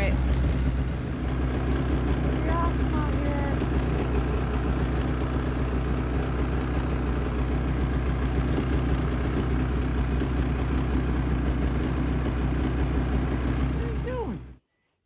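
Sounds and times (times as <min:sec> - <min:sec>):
snowmobile engine idling: 0:00.0 - 0:14.6.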